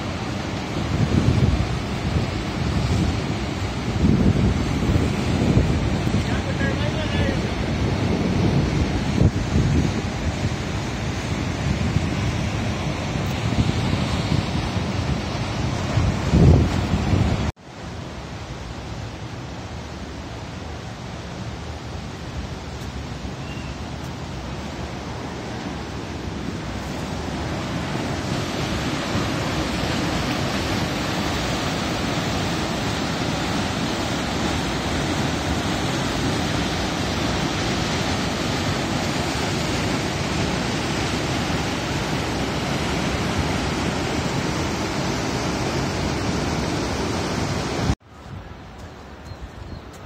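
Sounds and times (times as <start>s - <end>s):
rushing mountain stream: 0.0s - 50.0s.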